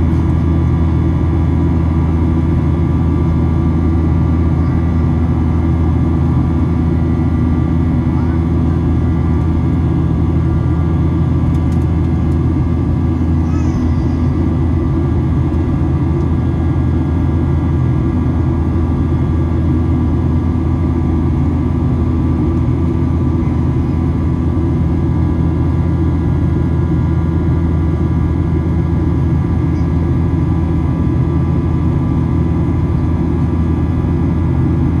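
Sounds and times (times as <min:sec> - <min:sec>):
airplane cabin engine rumble: 0:00.0 - 0:35.0.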